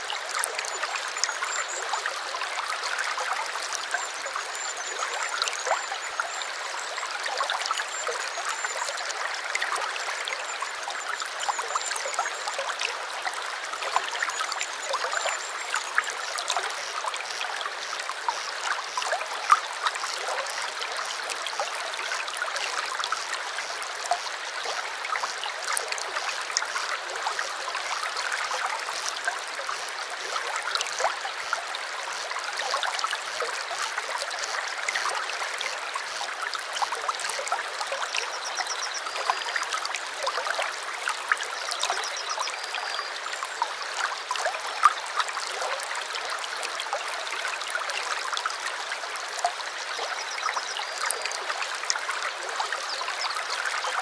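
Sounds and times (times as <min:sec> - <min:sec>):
stream babbling: 0:00.0 - 0:54.0.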